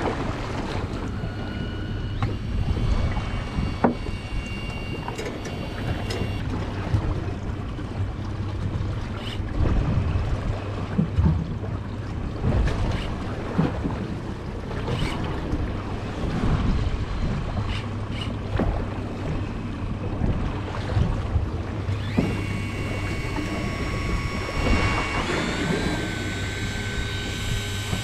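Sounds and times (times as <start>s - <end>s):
boat engine humming: 0.0s - 28.0s
water washing against hull: 0.0s - 28.0s.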